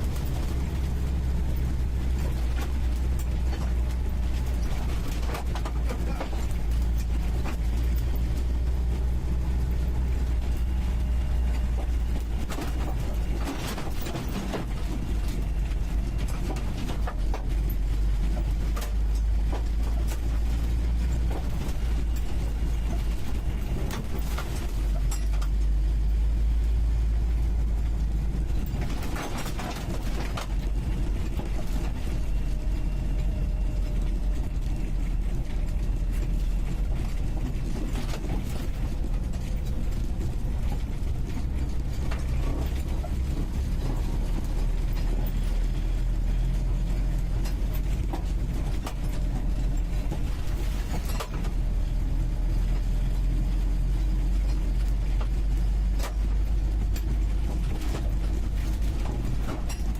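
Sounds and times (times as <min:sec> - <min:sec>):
vehicle body rattling and knocking: 0:00.0 - 0:26.3, 0:27.2 - 0:59.9
car engine droning inside cabin: 0:00.0 - 0:59.9.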